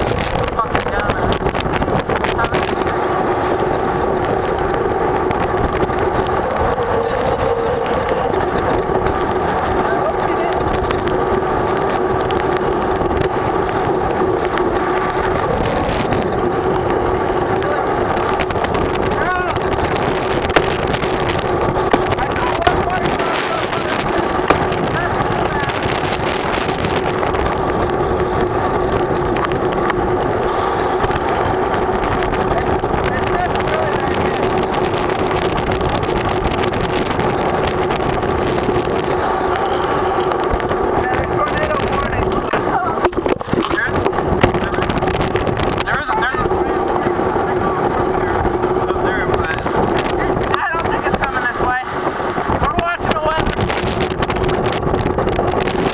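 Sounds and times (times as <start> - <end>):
small crackles: 0.0 - 55.9
steady hum: 0.0 - 55.9
wind and rain rushing: 0.0 - 55.9
wind buffeting microphone: 0.0 - 55.9.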